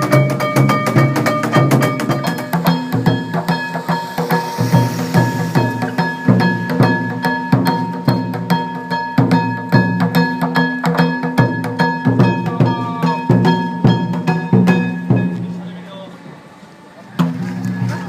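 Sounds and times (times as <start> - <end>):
taiko drum beaten fast: 0.0 - 15.7, 17.2 - 18.0
steady metallic ringing: 0.0 - 15.9.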